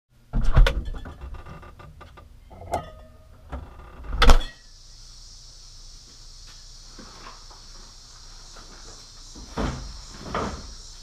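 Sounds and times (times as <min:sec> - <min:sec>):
steady high hiss: 0:01.1 - 0:11.0.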